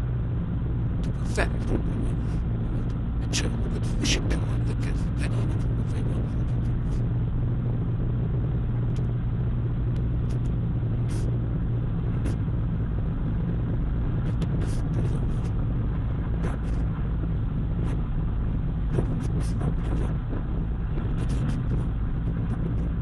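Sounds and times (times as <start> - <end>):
car driving rumble: 0.0 - 23.0.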